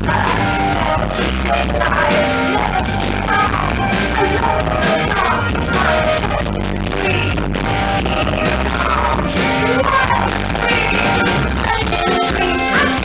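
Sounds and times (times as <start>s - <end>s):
live rock band playing: 0.0s - 13.0s
woman singing: 0.0s - 13.0s.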